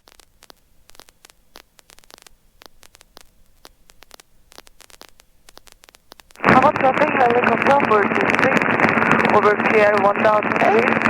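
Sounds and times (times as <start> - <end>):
crackling static with clicks: 0.0 - 11.0
low hiss: 0.0 - 11.0.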